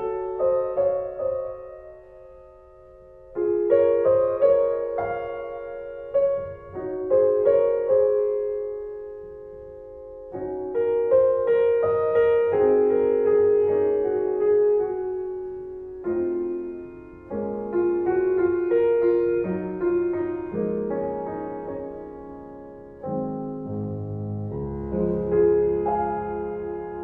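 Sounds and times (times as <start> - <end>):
slow piano chords: 0.0 - 27.0.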